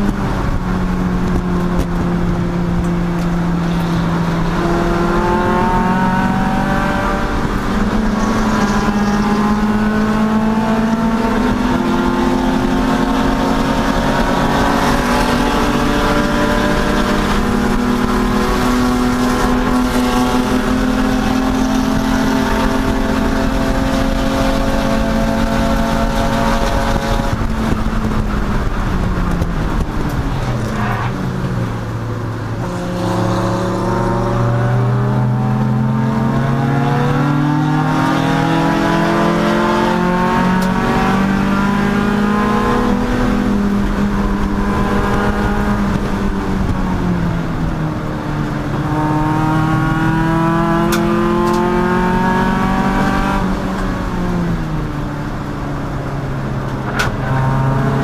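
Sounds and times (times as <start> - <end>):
race car engine at high revs: 0.0 - 58.0
road and wind noise: 0.0 - 58.0.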